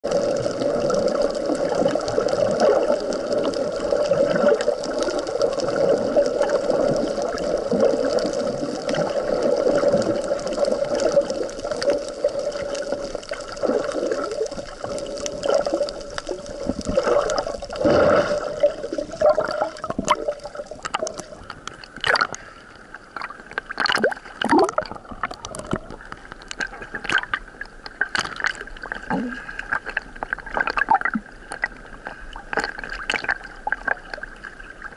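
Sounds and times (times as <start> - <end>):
muffled underwater water noise: 0.0 - 34.9
water gurgles: 0.0 - 34.9.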